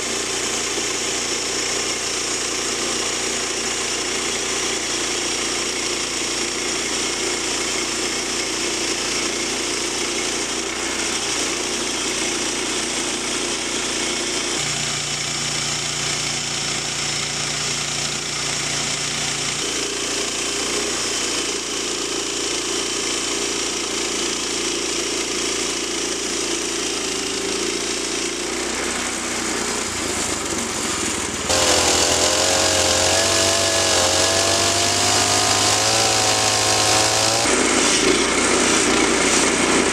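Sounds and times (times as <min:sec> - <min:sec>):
band blade cutting log: 0:00.0 - 0:39.9
chainsaw running: 0:00.0 - 0:39.9
sawmill engine running: 0:00.0 - 0:39.9.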